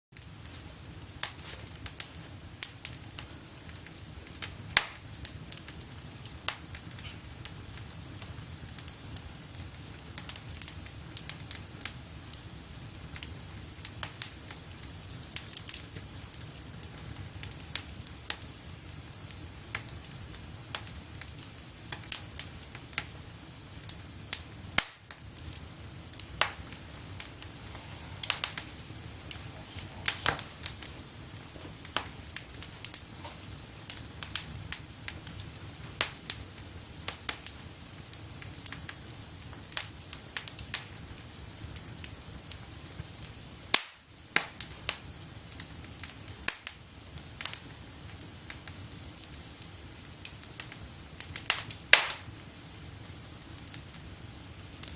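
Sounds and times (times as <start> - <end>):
wood fire crackling and popping: 0.1 - 54.9.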